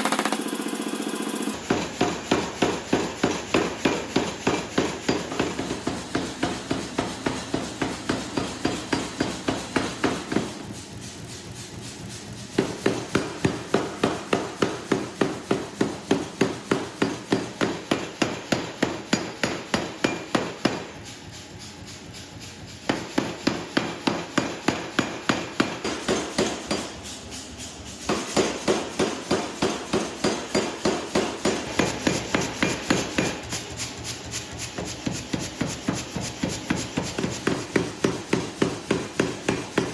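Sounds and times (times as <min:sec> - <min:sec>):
hammer forging steel: 0:01.5 - 0:11.7, 0:12.5 - 0:39.9.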